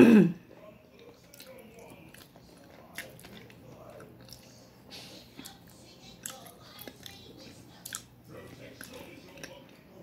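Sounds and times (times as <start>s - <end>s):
person chewing food: 0.9s - 10.0s.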